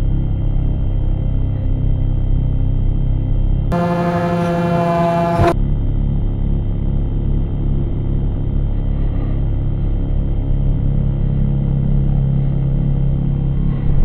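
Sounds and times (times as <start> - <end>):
electric motor and propeller drone: 0.0 - 14.0
low hum: 0.0 - 14.0.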